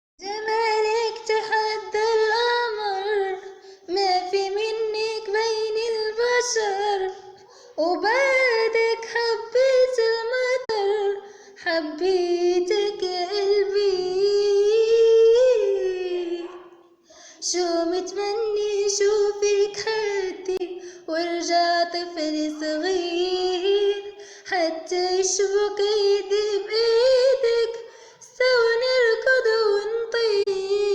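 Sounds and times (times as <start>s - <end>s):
girl singing unaccompanied: 0.2s - 30.9s.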